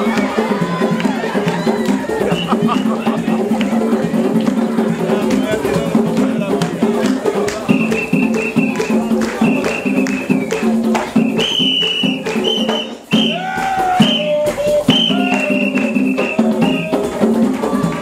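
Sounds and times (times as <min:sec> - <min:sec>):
upbeat dance music with shakers: 0:00.0 - 0:18.0.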